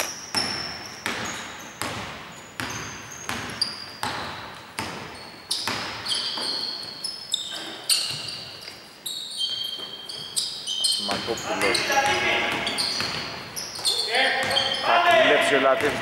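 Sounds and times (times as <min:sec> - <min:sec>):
basketball bouncing in echoing hall: 0:00.0 - 0:16.0
sneakers squeaking on floor: 0:00.0 - 0:16.0.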